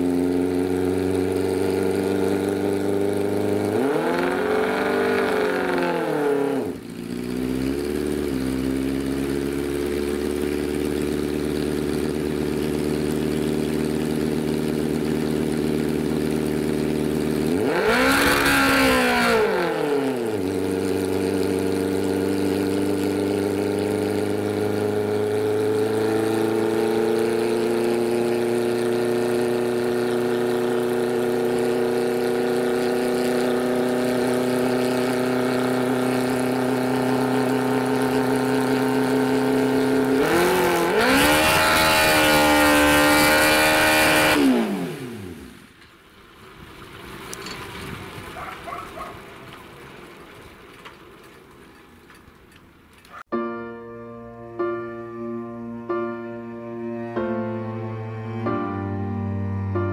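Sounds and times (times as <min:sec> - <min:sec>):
helicopter engine revving: 0:00.0 - 0:51.6.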